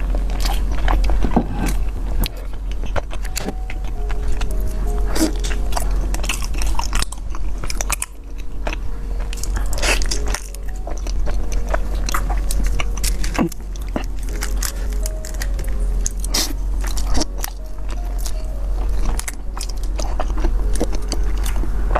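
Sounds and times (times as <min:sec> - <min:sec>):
crackling clicks: 0:00.0 - 0:21.7
crunching bites and chewing: 0:00.0 - 0:21.9.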